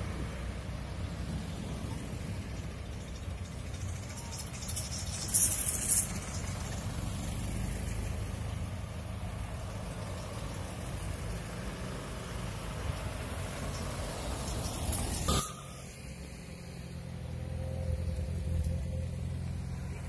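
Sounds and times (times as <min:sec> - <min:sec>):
vintage car engines rumbling: 0:00.0 - 0:20.0.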